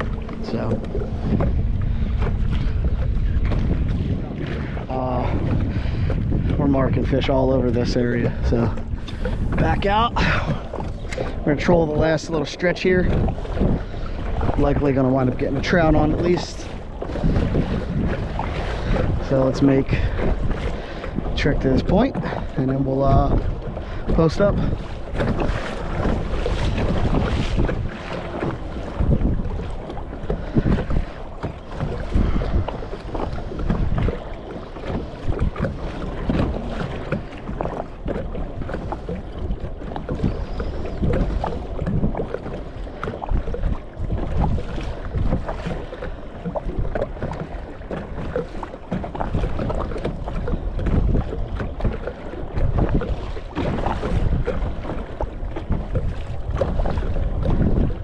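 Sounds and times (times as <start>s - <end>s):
water sloshing around kayak: 0.0s - 58.0s
wind buffeting microphone: 0.0s - 58.0s.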